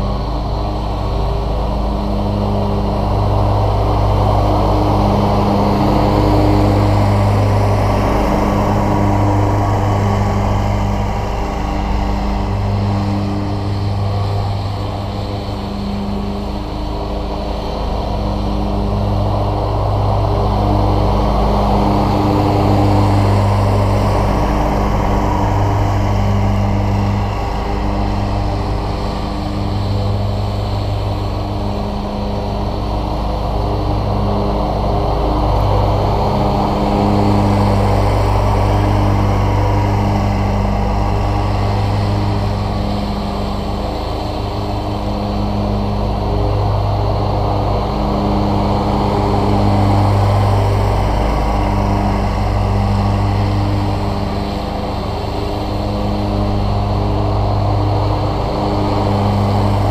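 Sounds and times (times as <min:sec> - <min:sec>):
riding mower engine cutting grass: 0:00.0 - 0:59.9.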